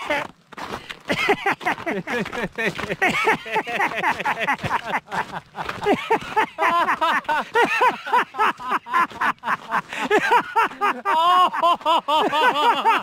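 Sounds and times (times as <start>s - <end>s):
men laughing: 0.0s - 13.0s.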